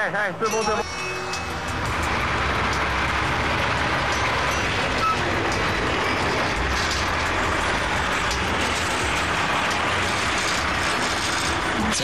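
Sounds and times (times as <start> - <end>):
truck driving past: 0.8 - 11.9.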